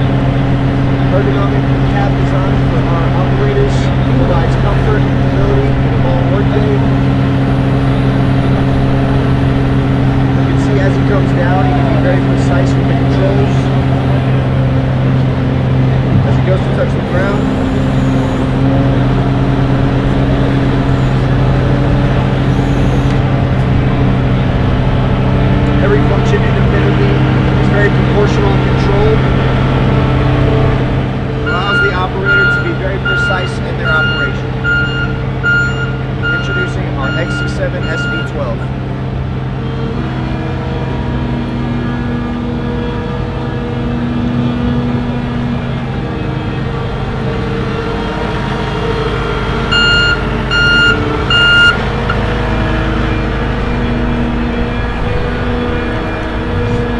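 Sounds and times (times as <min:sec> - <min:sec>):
diesel engine humming: 0:00.0 - 0:56.9.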